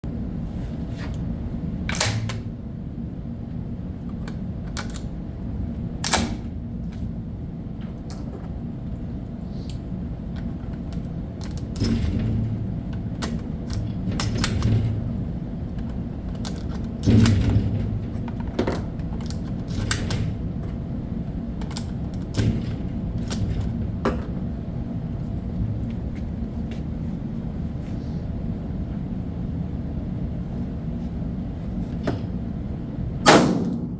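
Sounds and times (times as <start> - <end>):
steady low rumble: 0.0 - 33.9.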